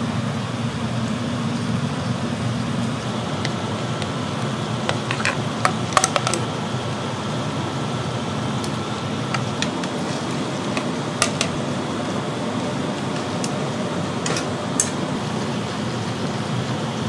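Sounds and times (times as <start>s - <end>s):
ventilation fan whirring: 0.0s - 17.0s.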